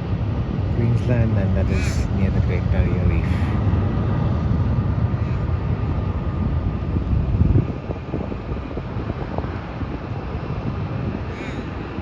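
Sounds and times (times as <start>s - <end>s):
jet engines low rumble: 0.0s - 12.0s
wind buffeting microphone: 0.0s - 12.0s.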